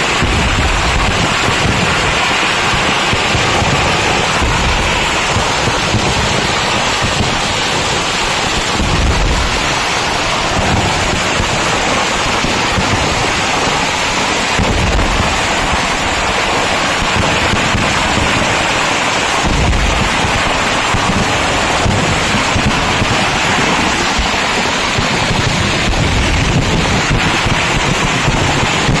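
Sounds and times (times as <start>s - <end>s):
fireworks crackling and rumbling: 0.0s - 29.0s
low fireworks booms: 0.0s - 29.0s.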